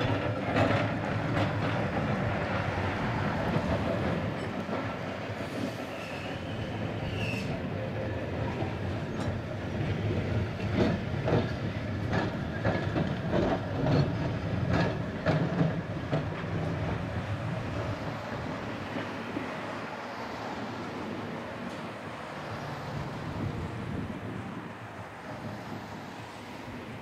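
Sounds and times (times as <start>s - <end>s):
passing car traffic: 0.0s - 27.0s
tram wheels rumbling over rail joints: 0.0s - 27.0s.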